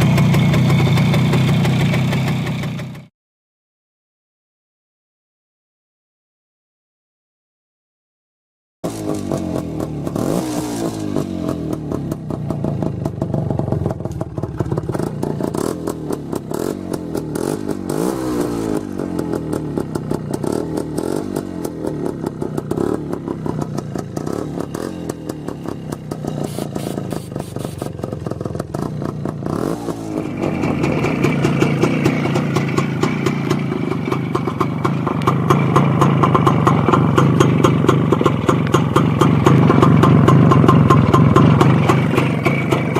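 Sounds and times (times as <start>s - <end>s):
motorcycle engine revving: 0.0s - 3.1s, 8.8s - 42.9s.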